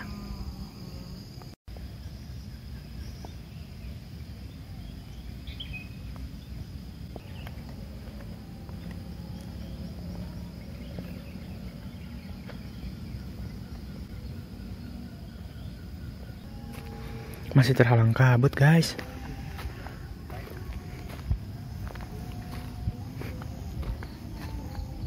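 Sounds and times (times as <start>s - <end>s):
insects droning high-pitched: 0.0s - 25.0s.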